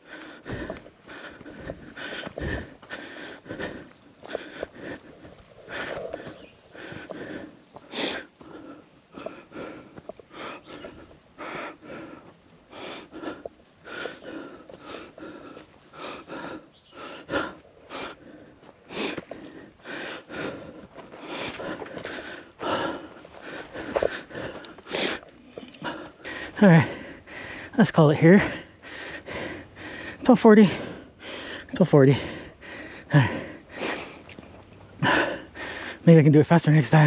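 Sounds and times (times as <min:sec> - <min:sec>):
person breathing heavily: 0:00.0 - 0:36.1.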